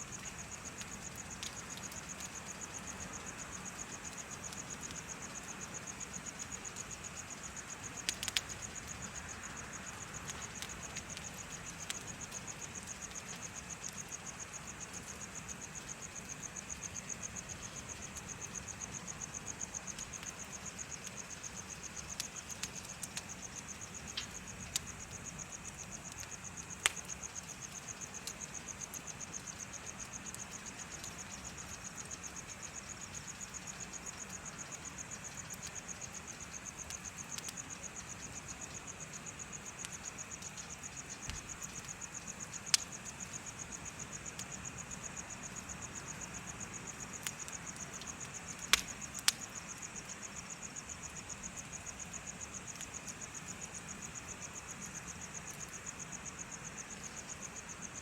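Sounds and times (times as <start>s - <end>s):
bonfire crackling and popping: 0.0s - 58.0s
insects chirping in a trill: 0.0s - 58.0s.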